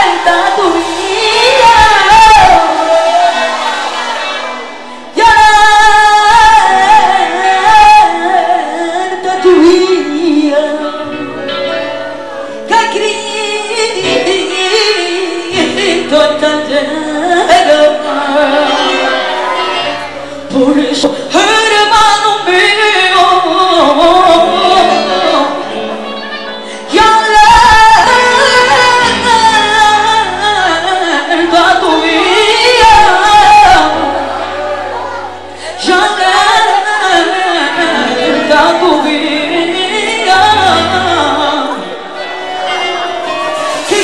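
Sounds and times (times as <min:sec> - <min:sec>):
woman singing religious song: 0:00.0 - 0:11.3, 0:12.7 - 0:25.9, 0:26.7 - 0:42.3, 0:43.2 - 0:44.0
instrumental backing: 0:00.0 - 0:44.0.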